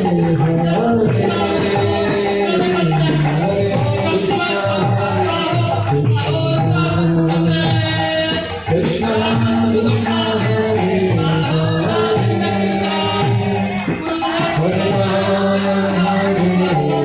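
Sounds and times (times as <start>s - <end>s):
devotional chanting with music: 0.0s - 17.0s
jingling percussion: 0.0s - 17.0s.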